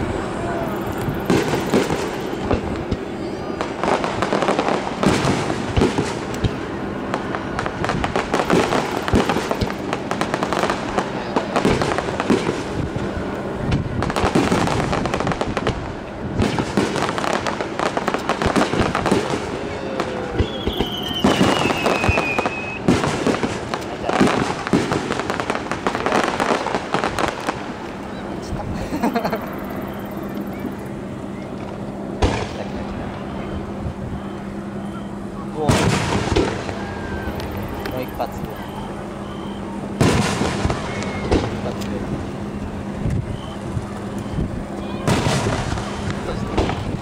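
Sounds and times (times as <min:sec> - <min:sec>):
fireworks bangs and crackling: 0:00.0 - 0:47.0
falling firework whistle: 0:00.3 - 0:12.8, 0:16.4 - 0:27.5, 0:29.3 - 0:31.0, 0:32.2 - 0:47.0.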